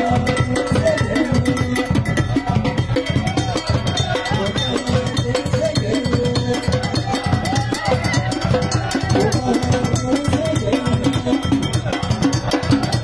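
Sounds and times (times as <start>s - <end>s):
frame drums: 0.0s - 13.0s
group of voices singing: 0.0s - 13.0s.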